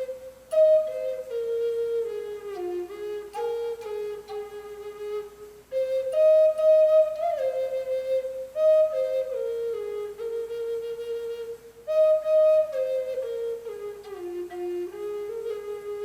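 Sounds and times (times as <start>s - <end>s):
flute playing slow melody: 0.0s - 16.0s.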